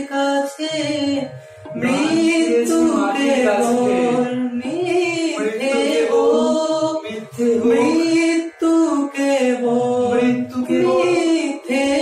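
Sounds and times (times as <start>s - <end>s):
men singing: 0.0s - 12.0s.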